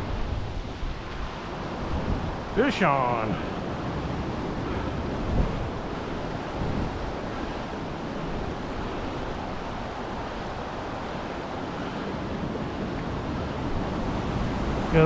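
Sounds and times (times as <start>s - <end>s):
river water rushing through rapids: 0.0s - 15.0s
wind buffeting microphone: 0.0s - 15.0s.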